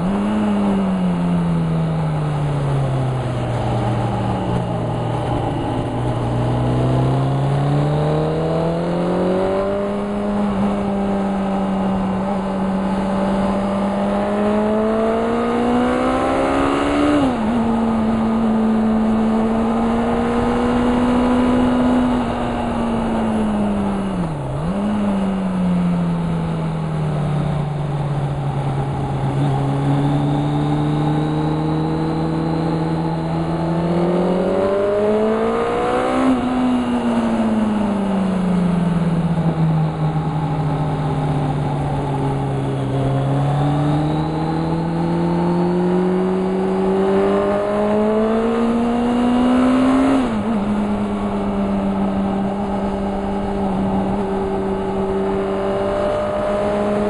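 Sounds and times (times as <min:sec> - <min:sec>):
car engine revving at speed: 0:00.0 - 0:57.0.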